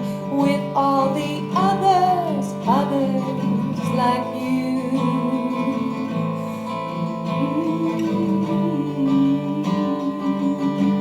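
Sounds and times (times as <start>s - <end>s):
acoustic guitar strummed and picked: 0.0s - 11.0s.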